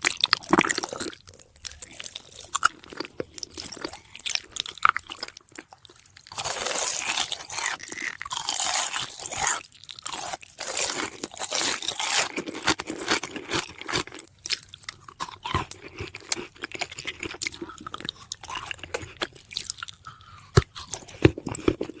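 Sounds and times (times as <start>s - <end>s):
crisp crunching: 0.0s - 22.0s.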